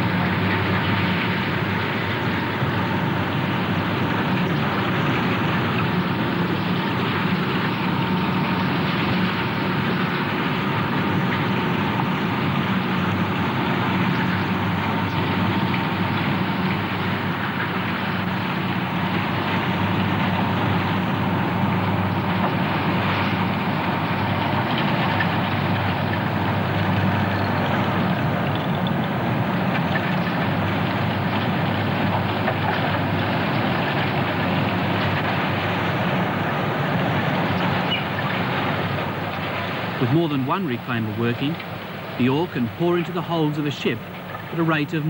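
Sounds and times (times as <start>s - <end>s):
heavy machinery humming: 0.0s - 45.0s.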